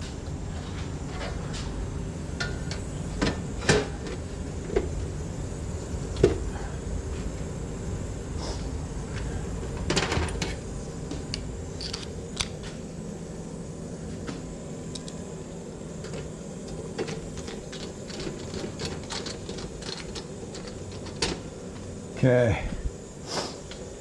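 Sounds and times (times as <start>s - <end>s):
low hum of humidifier: 0.0s - 24.0s.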